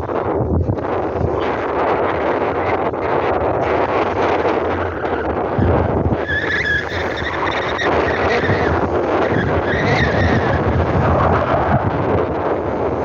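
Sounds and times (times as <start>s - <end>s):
motorboat engine: 0.0s - 13.0s
wind noise on microphone: 0.0s - 13.0s.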